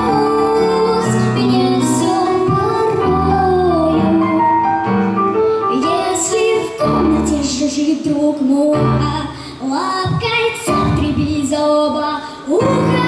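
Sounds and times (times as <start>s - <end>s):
girl singing: 0.0s - 4.5s, 5.7s - 13.0s
piano chords: 0.0s - 11.5s, 12.5s - 13.0s.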